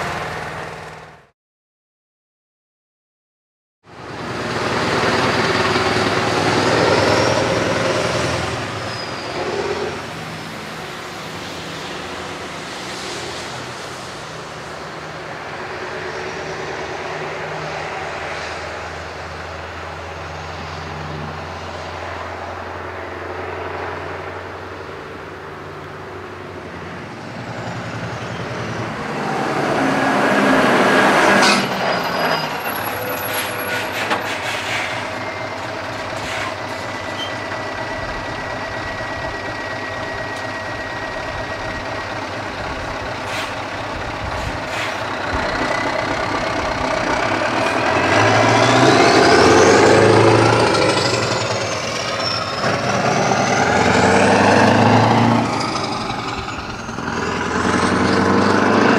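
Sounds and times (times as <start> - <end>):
diesel truck engine running: 3.9 - 12.7, 14.5 - 58.9.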